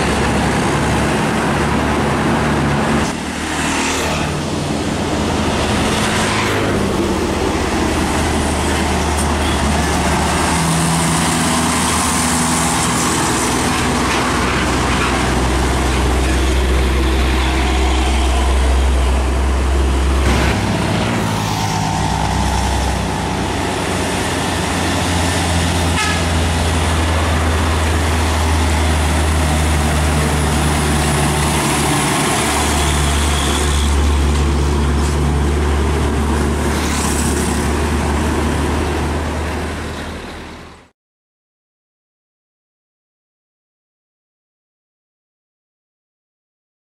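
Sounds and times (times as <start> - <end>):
diesel engines droning: 0.0 - 40.9
tyre and road noise: 0.0 - 40.9.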